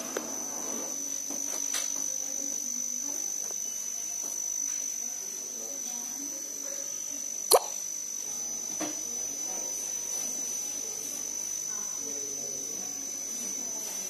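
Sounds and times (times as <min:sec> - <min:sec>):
cricket trilling: 0:00.0 - 0:14.0.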